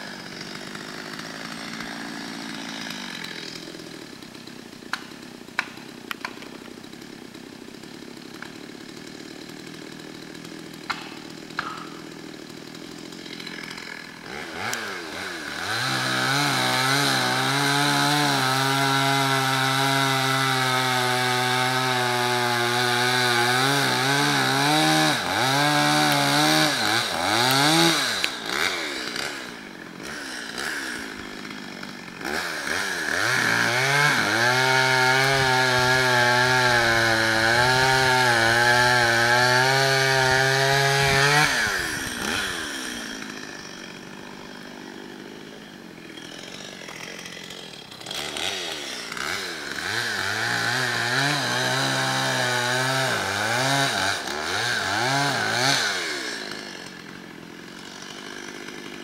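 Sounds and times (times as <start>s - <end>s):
chainsaw cutting tree trunk: 0.0s - 59.0s.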